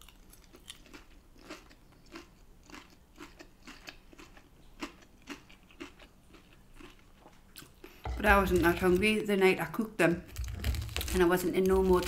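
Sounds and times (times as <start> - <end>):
person chewing crunchy food: 0.0 - 9.1, 10.3 - 12.0.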